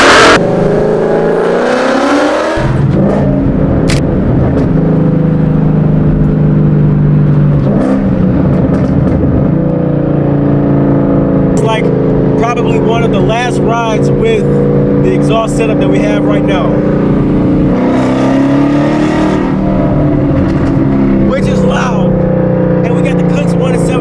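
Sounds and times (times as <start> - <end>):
vee eight car exhaust accelerating: 0.0 - 24.0.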